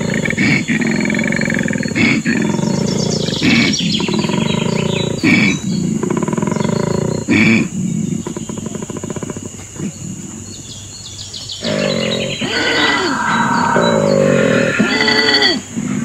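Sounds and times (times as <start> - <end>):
koala bellowing: 0.0 - 10.6, 11.6 - 16.0.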